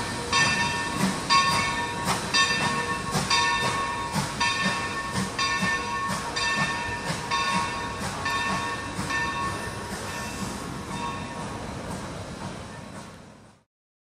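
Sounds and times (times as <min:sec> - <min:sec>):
steam train chugging: 0:00.0 - 0:13.7.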